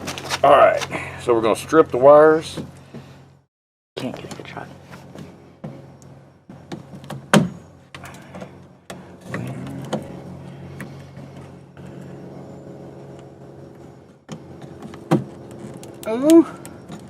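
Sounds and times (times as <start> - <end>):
low hum: 2.7 - 17.0.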